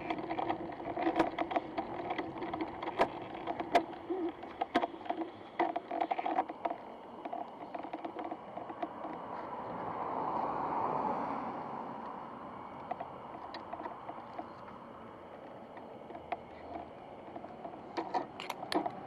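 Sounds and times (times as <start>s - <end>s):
sharp clicks and rattles: 0.0s - 9.8s, 12.0s - 19.0s.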